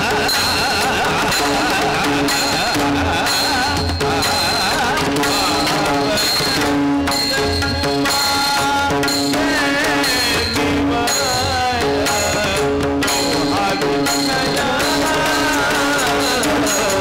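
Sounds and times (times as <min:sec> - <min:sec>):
drum beats: 0:00.0 - 0:17.0
harmonium: 0:00.0 - 0:17.0
man singing: 0:00.0 - 0:17.0.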